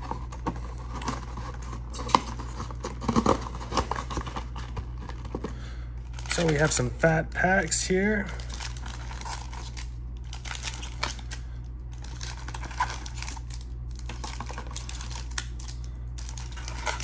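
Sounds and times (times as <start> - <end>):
foil card packs crinkling: 0.0 - 17.0
steady low hum: 0.0 - 17.0.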